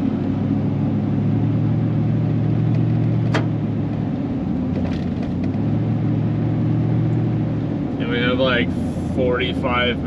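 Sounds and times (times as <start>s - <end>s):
engine and tyre drone: 0.0s - 10.0s.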